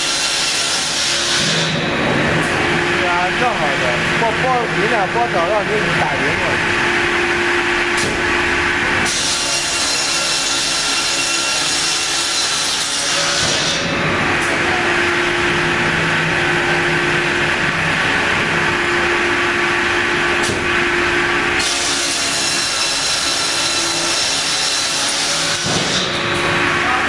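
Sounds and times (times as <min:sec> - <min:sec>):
circular saw cutting log: 0:00.0 - 0:27.0
steady machine hum: 0:00.0 - 0:27.0.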